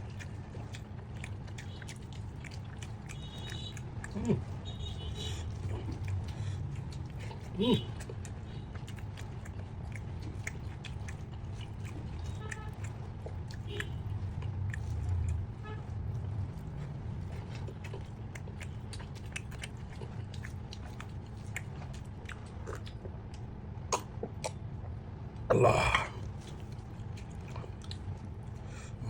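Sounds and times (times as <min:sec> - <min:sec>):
low steady hum: 0:00.0 - 0:29.0
person chewing food: 0:00.0 - 0:29.0.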